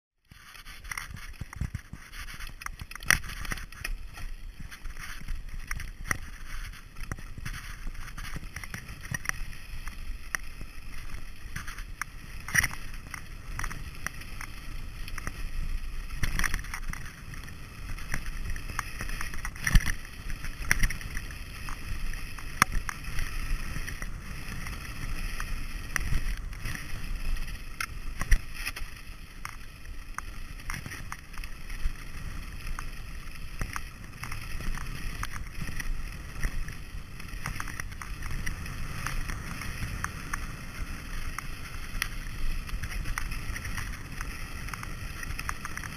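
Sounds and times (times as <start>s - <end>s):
bike tyres crunching on stones: 0.2s - 45.9s
wind rumble on microphone: 0.2s - 45.9s
bike rattling and knocking: 0.3s - 45.9s.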